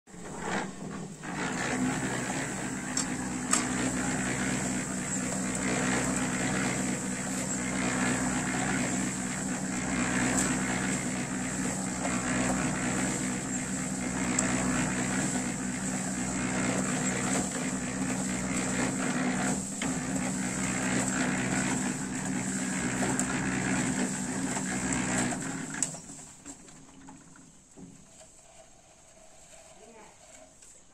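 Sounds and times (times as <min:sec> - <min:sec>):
concrete churning in drum: 0:00.1 - 0:30.5
concrete mixer motor humming: 0:00.1 - 0:30.7.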